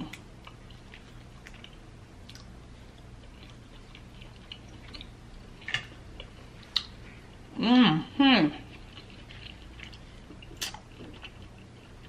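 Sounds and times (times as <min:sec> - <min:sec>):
chewing seafood: 0:00.0 - 0:07.5, 0:08.6 - 0:12.0.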